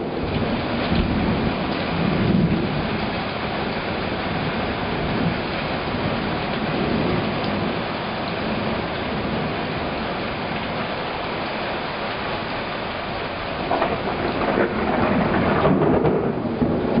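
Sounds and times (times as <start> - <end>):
heavy rain downpour: 0.0 - 17.0.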